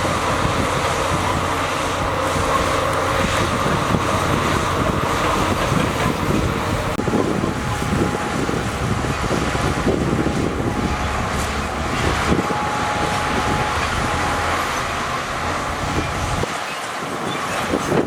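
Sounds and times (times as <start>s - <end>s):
steady high whine: 0.0s - 16.6s
diesel machinery rumbling: 0.0s - 18.0s.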